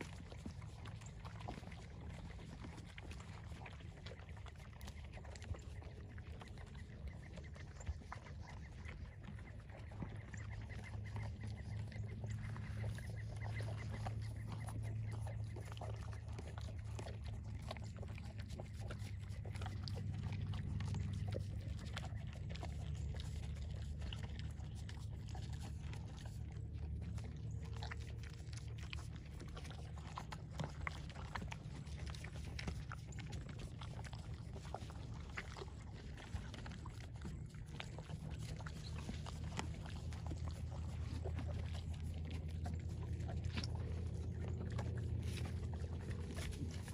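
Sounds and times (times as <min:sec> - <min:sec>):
horse chewing and crunching feed: 0:00.0 - 0:46.9
steady low rumble: 0:00.0 - 0:46.9.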